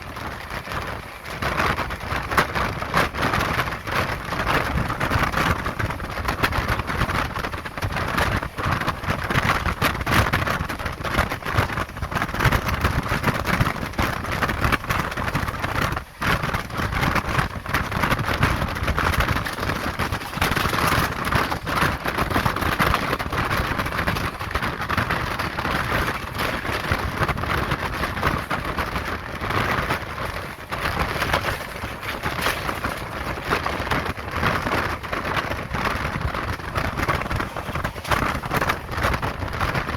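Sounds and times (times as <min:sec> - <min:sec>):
rush of wind: 0:00.0 - 0:39.9
train wheels rattling on rails: 0:00.0 - 0:39.9.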